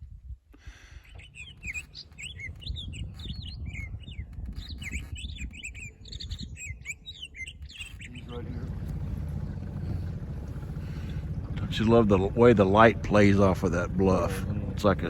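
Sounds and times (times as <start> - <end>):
small birds chirping: 0.6 - 15.0
low steady rumble: 1.2 - 15.0.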